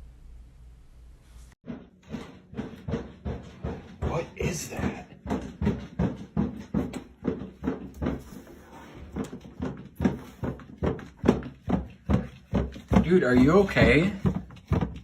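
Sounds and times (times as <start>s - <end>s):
rapid knocking thuds: 1.6s - 15.0s.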